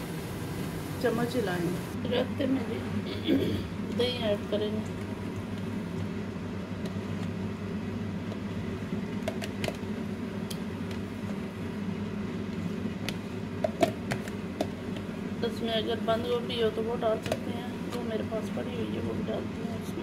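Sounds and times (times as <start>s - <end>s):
appliance hum: 0.0s - 20.0s.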